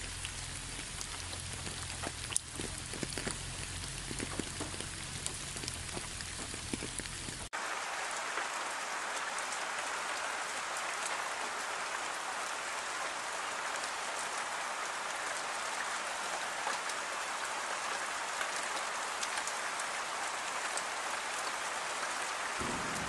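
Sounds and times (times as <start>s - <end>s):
dense rain hiss: 0.0s - 23.0s
raindrops landing close by: 0.0s - 23.0s.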